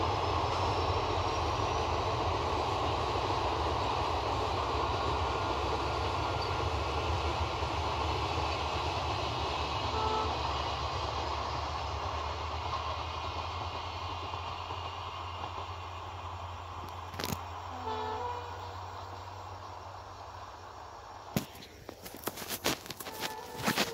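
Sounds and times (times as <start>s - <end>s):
train rumbling and clattering past: 0.0s - 23.9s.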